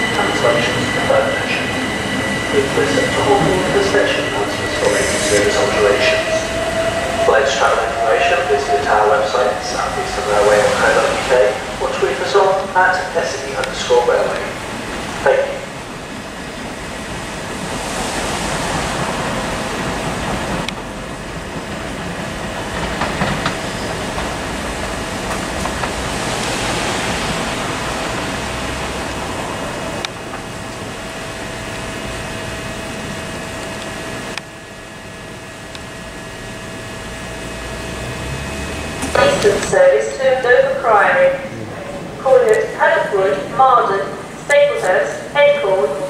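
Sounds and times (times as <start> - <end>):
electric train whine: 0.0 - 46.0
train rolling noise: 0.0 - 46.0.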